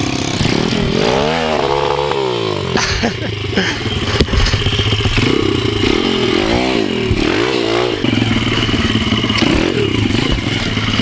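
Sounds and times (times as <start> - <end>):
bike rattling over rough ground: 0.0 - 11.0
motorbike engine revving: 0.0 - 11.0.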